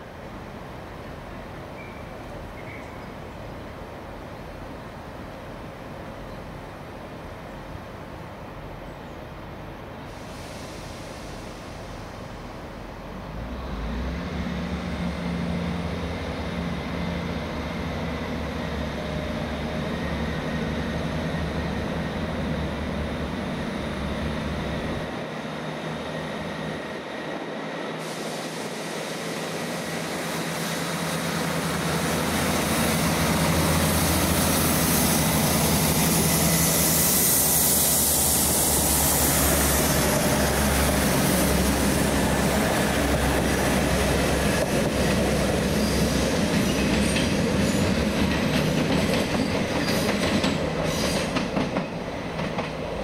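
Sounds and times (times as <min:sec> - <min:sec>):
train humming with hiss: 0:00.0 - 0:53.0.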